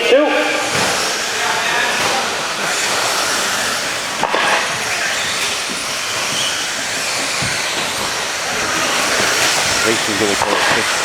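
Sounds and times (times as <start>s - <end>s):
electric rc truck motors whirring: 0.6s - 11.0s.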